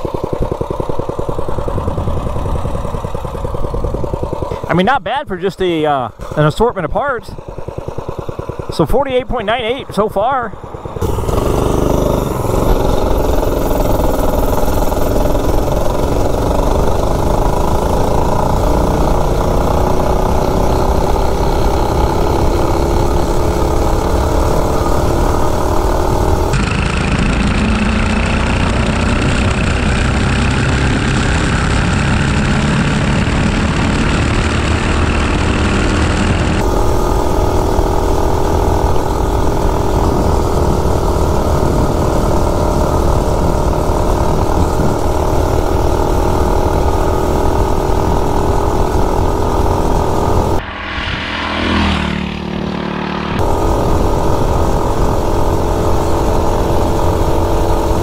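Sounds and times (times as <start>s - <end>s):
mini bike engine at high revs: 0.0s - 58.0s.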